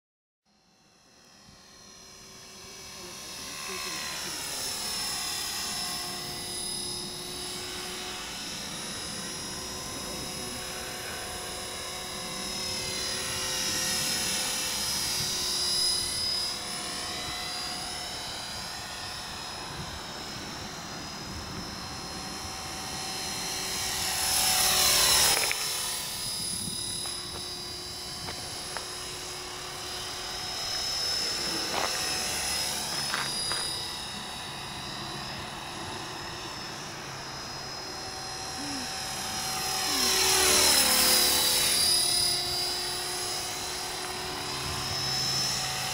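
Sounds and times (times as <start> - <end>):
rc helicopter rotor whine: 0.5 - 45.9.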